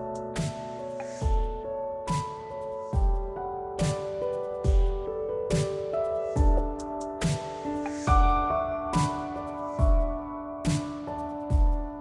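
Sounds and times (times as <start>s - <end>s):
slow beat background music: 0.0s - 12.0s.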